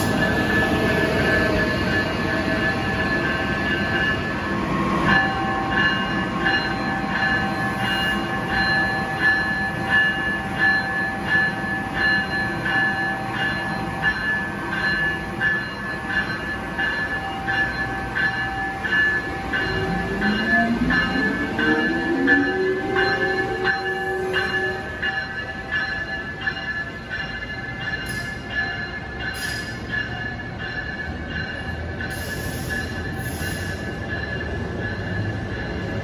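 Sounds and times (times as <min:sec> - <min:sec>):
locomotive bell dinging: 0:00.0 - 0:36.0
train running noise: 0:00.0 - 0:36.0.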